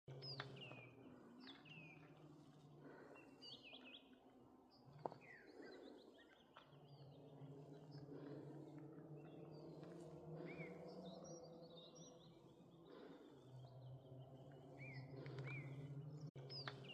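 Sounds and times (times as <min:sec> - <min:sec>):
faint birdsong: 0:00.1 - 0:16.9.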